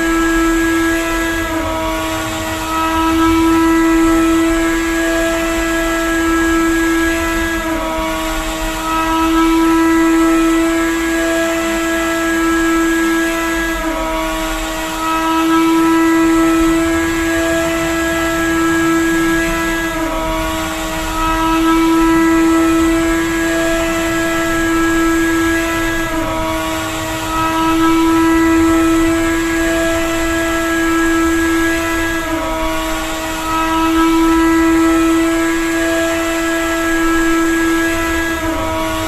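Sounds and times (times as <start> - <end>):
drone propellers buzzing: 0.0 - 39.0.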